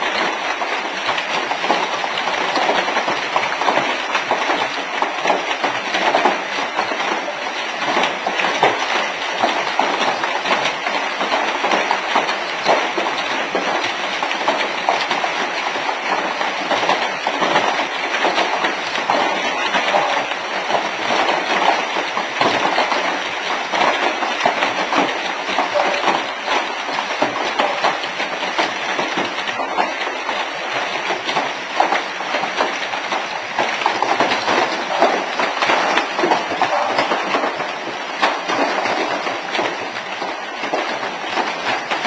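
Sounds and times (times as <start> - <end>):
hail on a metal roof: 0.0 - 42.0.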